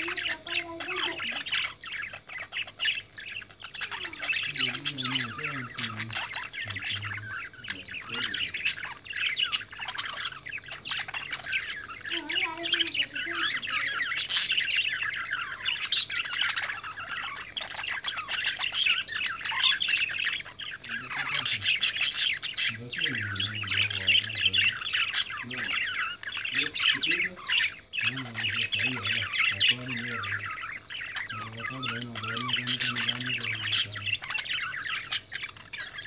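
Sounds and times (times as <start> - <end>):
budgerigars chattering and squawking: 0.0 - 36.0.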